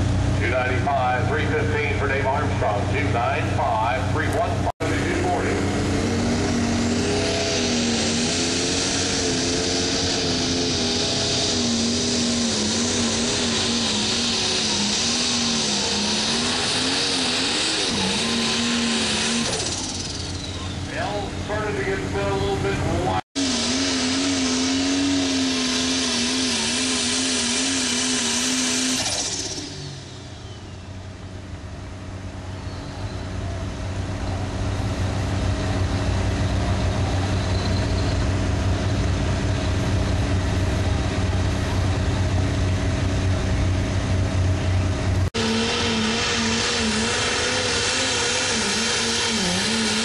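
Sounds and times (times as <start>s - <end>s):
deep engine rumble: 0.0s - 50.0s
tractor diesel engine roaring: 0.0s - 50.0s.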